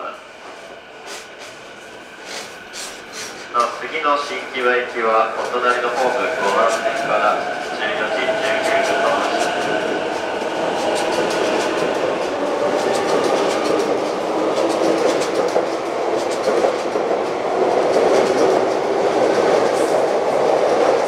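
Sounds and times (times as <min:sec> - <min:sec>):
electric train running: 0:00.4 - 0:21.0.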